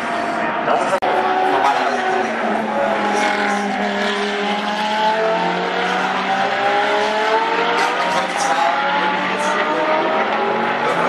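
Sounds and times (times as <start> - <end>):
race car engines accelerating: 0.0 - 11.0.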